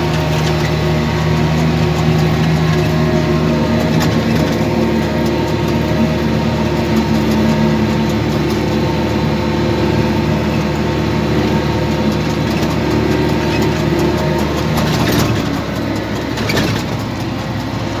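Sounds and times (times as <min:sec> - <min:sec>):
tractor engine under load: 0:00.0 - 0:18.0.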